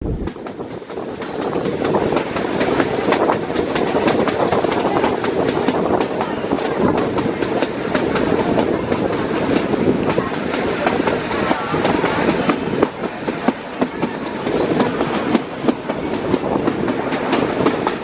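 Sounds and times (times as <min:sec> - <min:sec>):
train rumbling along track: 0:00.0 - 0:18.0.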